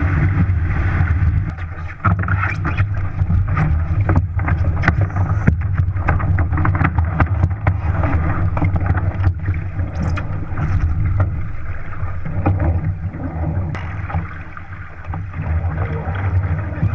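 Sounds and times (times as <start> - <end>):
water rushing along a hull: 0.0 - 16.9.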